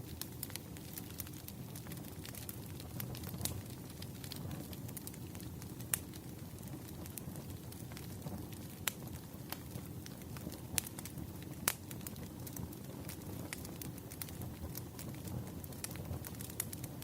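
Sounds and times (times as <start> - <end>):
burning wood crackling and popping: 0.0 - 17.0
campfire rumble: 0.0 - 17.0.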